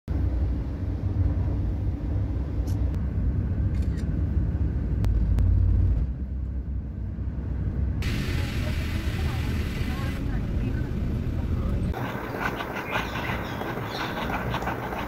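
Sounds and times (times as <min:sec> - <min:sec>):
road rumble inside car: 0:02.6 - 0:15.0.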